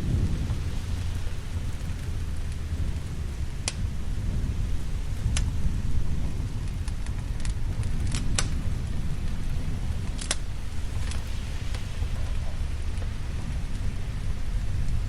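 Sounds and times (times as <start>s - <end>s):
fire crackling and popping: 0.0s - 15.0s
low thunder rumble: 0.0s - 15.0s
rain: 0.0s - 15.0s.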